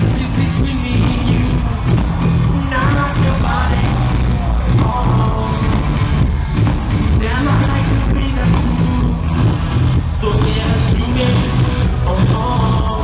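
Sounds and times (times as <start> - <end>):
live pop band music: 0.0 - 13.0
person singing: 0.0 - 13.0.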